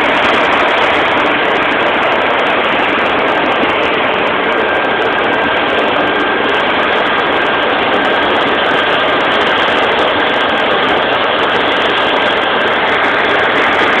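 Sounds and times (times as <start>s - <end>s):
fire truck engines rumbling: 0.0s - 14.0s.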